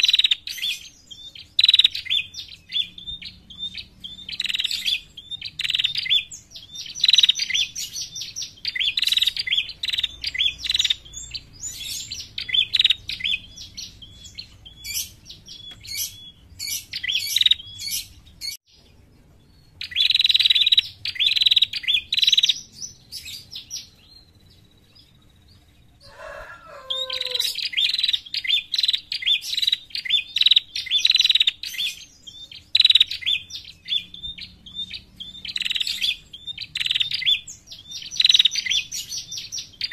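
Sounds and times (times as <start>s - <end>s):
bird chirping high and sharp: 0.0s - 24.7s, 26.1s - 39.9s.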